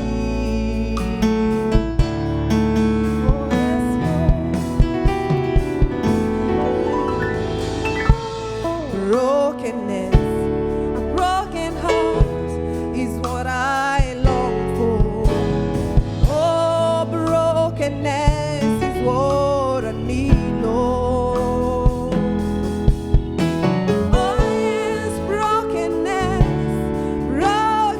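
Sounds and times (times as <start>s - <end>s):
person singing with vibrato: 0.0s - 7.0s, 7.6s - 22.8s, 23.8s - 27.9s
drums: 0.0s - 27.9s
guitar: 0.0s - 27.9s
keyboard: 0.0s - 27.9s.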